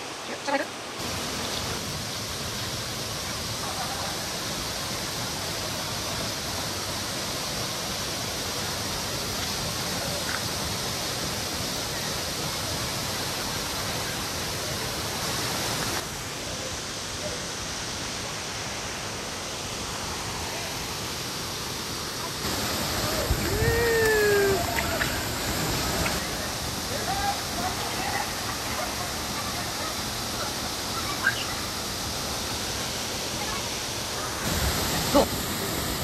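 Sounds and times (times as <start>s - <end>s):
waterfall and stream rushing: 0.0s - 36.0s.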